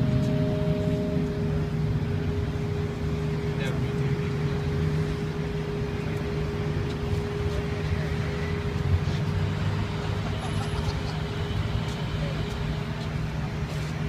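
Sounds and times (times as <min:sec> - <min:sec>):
low mechanical rumble: 0:00.0 - 0:11.6
constant hum: 0:00.0 - 0:14.0.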